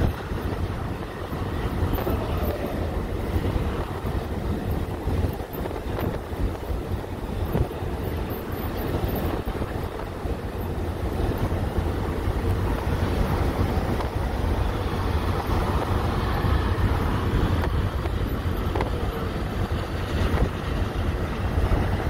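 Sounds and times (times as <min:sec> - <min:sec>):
low road rumble: 0:00.0 - 0:22.0
wind buffeting microphone: 0:00.0 - 0:22.0.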